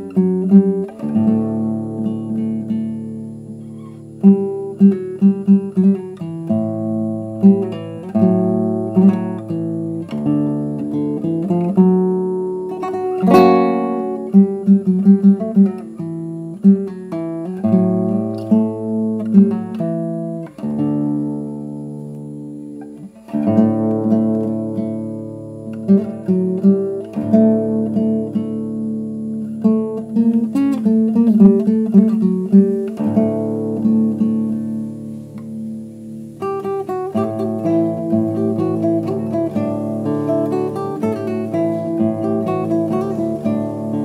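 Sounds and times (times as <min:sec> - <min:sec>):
classical guitar playing: 0:00.0 - 0:44.0.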